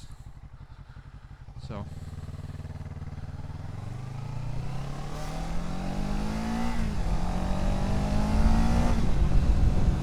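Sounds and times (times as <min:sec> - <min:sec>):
motorcycle engine accelerating: 0:00.4 - 0:10.0.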